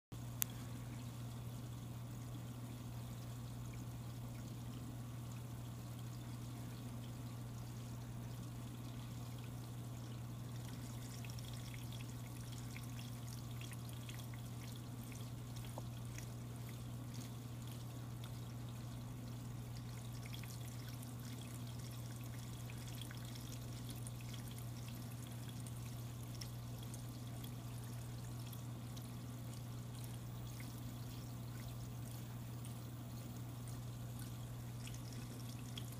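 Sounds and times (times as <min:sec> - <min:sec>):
filter pump hum: 0:00.1 - 0:35.9
aquarium water trickling: 0:00.2 - 0:35.9.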